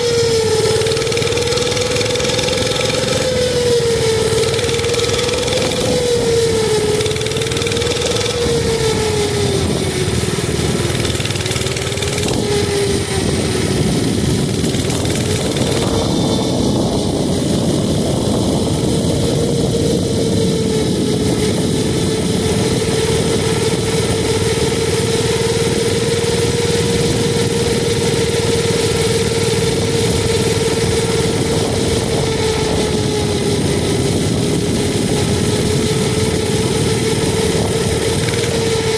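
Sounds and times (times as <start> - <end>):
mini bike engine running: 0.0 - 38.9.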